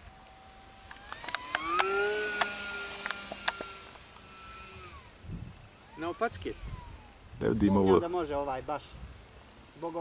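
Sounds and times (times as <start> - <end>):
electric motor and propeller whining: 0.0 - 9.4.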